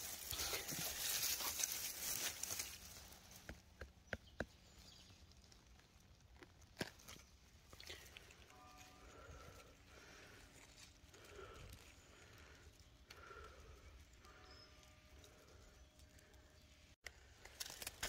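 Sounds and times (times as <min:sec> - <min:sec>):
dry pine needles rustling: 0:00.0 - 0:04.0, 0:04.6 - 0:18.0
twigs clicking and snapping: 0:00.0 - 0:18.0.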